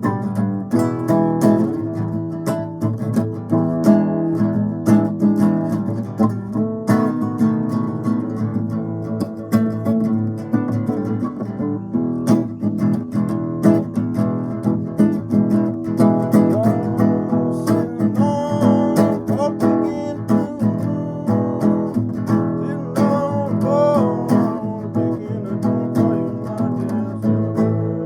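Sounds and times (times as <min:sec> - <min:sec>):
acoustic guitar blues: 0:00.0 - 0:28.0.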